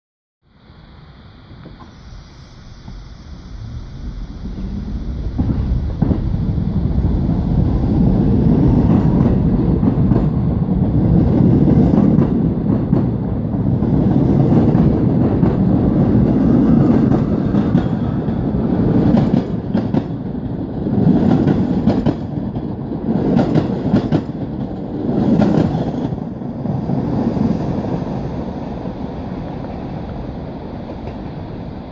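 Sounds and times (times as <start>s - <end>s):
train traction motors howling: 0.5s - 31.9s
rumble of train wheels: 0.6s - 31.9s.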